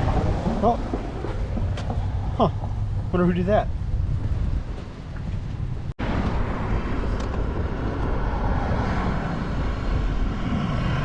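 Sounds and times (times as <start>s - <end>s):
bicycle road noise: 0.0s - 11.0s
wind on microphone: 0.0s - 11.0s.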